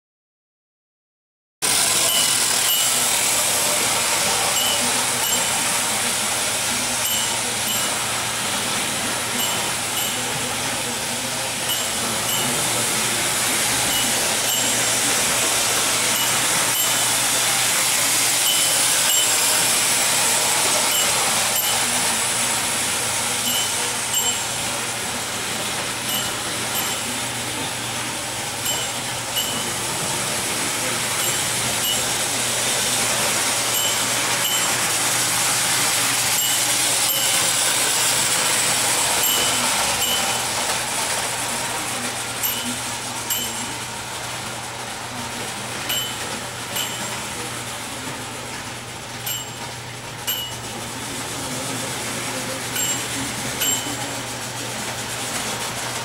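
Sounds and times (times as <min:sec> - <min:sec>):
toy train whirring rattle: 0:01.7 - 0:56.0.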